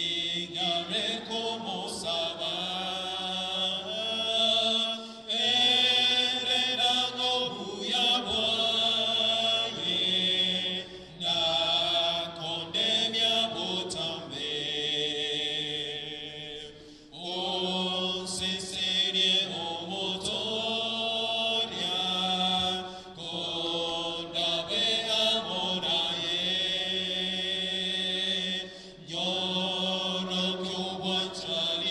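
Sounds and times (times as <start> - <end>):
congregation singing a hymn: 0.0 - 31.9.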